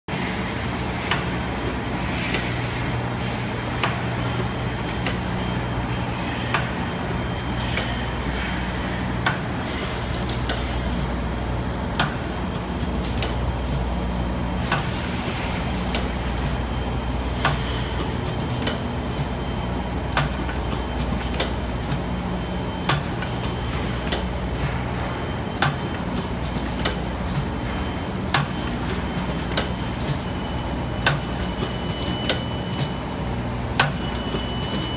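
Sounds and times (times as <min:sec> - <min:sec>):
machine motor hum: 0:00.1 - 0:34.9.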